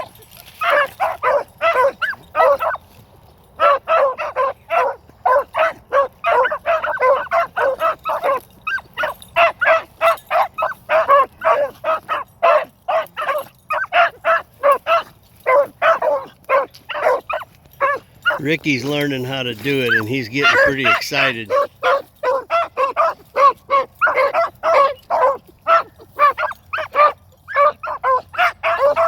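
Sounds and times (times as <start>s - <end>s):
dogs baying: 0.0s - 29.0s.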